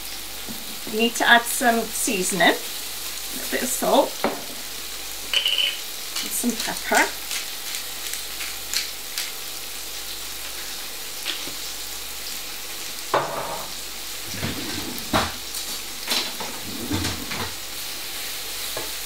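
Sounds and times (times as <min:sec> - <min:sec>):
leeks sizzling in frying pan: 0:00.0 - 0:16.6, 0:17.2 - 0:19.0.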